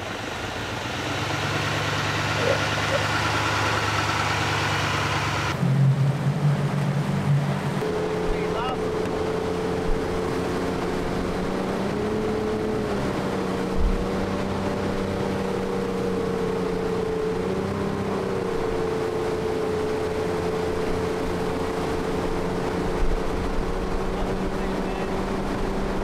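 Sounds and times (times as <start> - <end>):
outboard engine running: 0.0 - 26.0.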